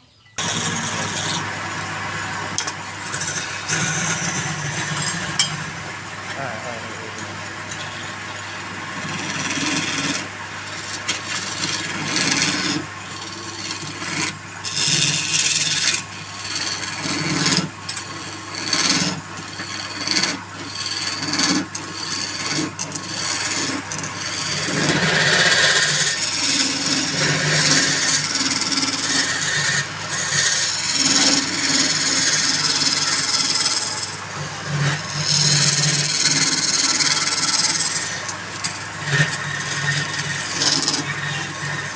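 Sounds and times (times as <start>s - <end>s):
lathe motor humming: 0.4s - 41.9s
lathe tool scraping wood: 0.4s - 41.9s.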